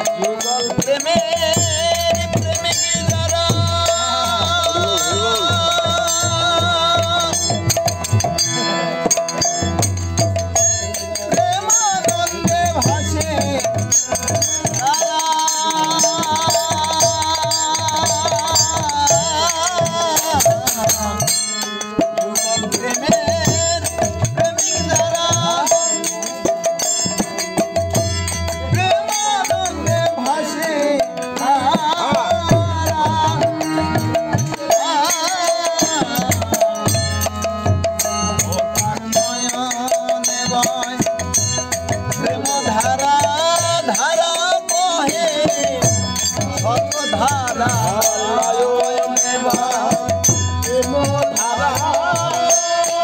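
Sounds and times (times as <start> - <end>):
harmonium holding a note: 0.0 - 53.0
men singing: 0.0 - 53.0.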